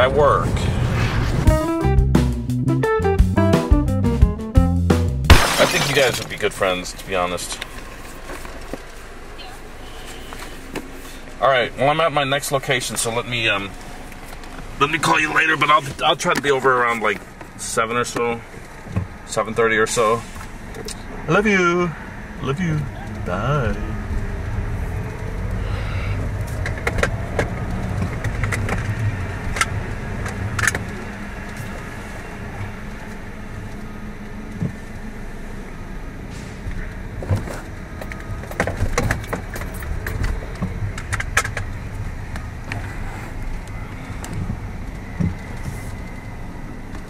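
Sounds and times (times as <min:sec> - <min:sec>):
car engine rumble inside cabin: 0:06.4 - 0:47.0.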